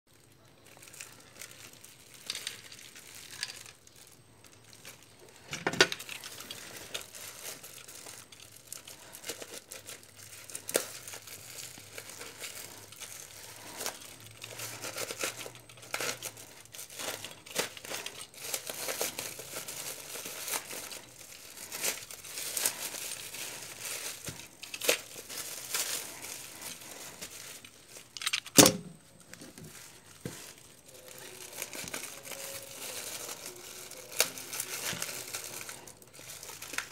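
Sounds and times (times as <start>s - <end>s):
packaging crinkling and tearing: 0.1s - 36.9s.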